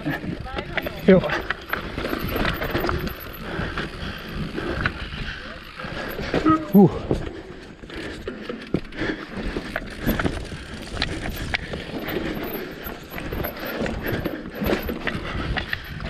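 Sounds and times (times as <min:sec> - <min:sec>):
bike chain and frame clatter: 0:00.0 - 0:16.0
bike tyres on dirt and roots: 0:00.0 - 0:16.0.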